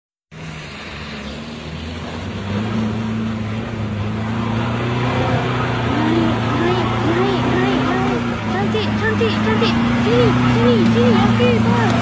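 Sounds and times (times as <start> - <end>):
truck engine droning under load: 0.3 - 12.0.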